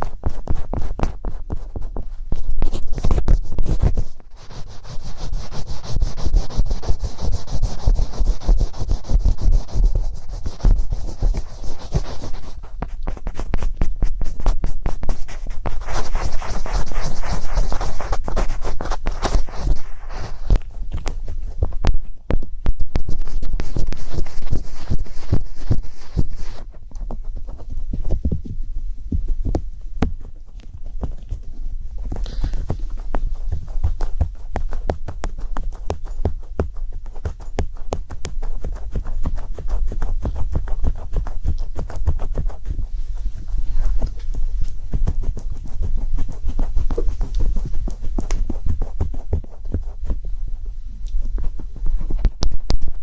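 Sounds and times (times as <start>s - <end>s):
rapid tapping and scratching: 0.0s - 53.0s.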